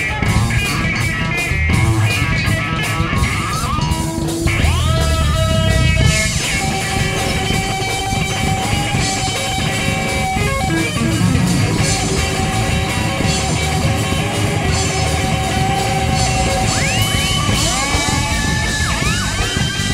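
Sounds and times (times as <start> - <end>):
live rock music with guitar: 0.0 - 19.9.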